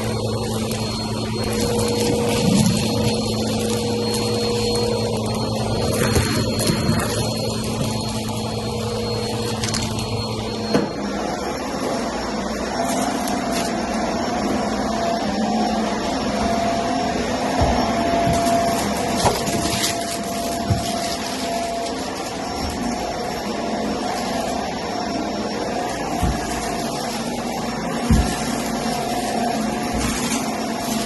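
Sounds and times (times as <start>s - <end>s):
vacuum cleaner running on carpet: 0.0s - 31.0s.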